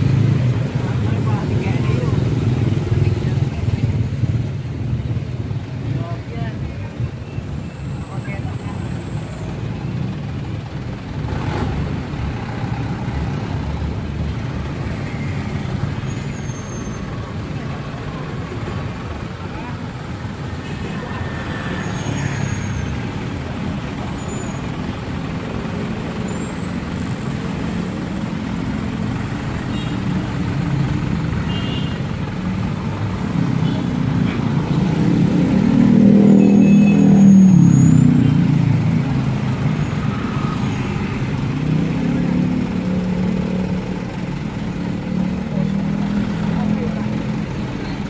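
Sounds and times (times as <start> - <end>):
trucks passing: 0.0 - 48.0.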